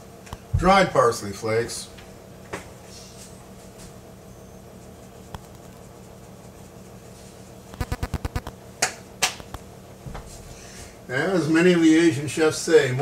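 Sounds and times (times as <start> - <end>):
low kitchen hum: 0.0 - 13.0.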